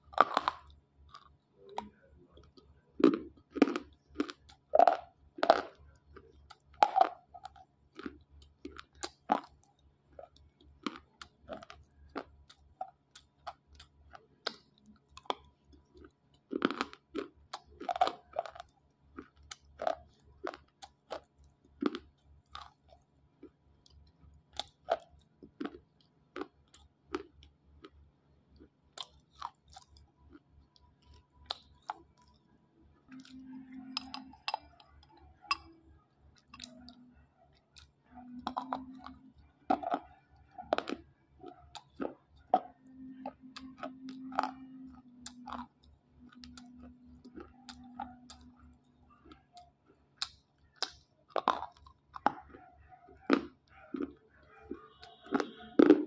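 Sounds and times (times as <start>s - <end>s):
slate pencils crunching in mouth: 0.0s - 24.0s, 24.6s - 28.0s, 28.6s - 32.4s, 33.1s - 35.8s, 37.6s - 54.2s.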